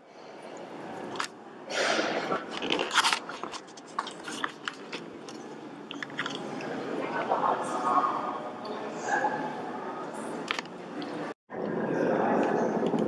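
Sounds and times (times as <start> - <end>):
people moving about in a hall: 0.0 - 13.0.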